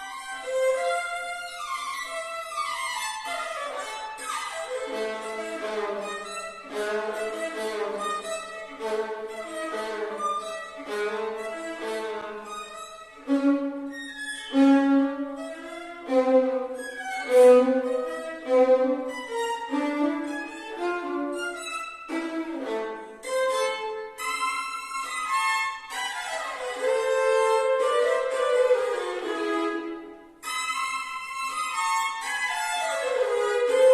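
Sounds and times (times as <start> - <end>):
violin playing bowed notes: 0.0 - 33.9.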